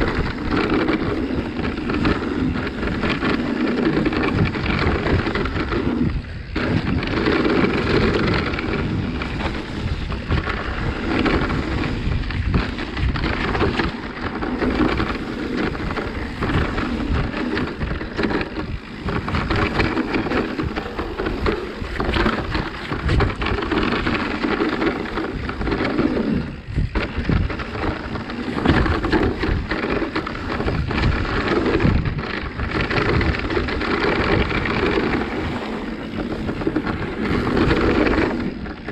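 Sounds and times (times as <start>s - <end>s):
bike rattling and knocking: 0.0s - 38.9s
tyres rumbling over dirt: 0.0s - 38.9s
wind buffeting microphone: 0.0s - 38.9s.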